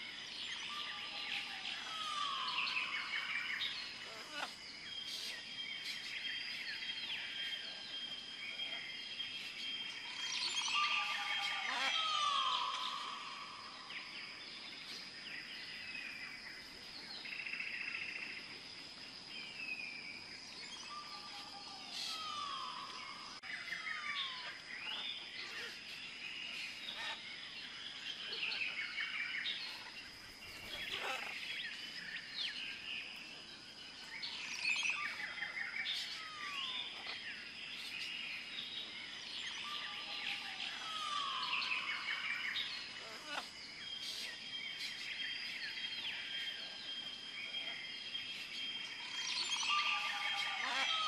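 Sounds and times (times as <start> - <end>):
birds chirping and calling: 0.0 - 18.0, 20.6 - 51.0.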